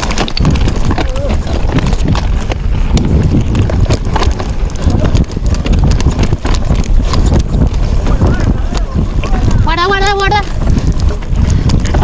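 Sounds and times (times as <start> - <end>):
mountain bike clattering: 0.0 - 12.0
wind on microphone: 0.0 - 12.0.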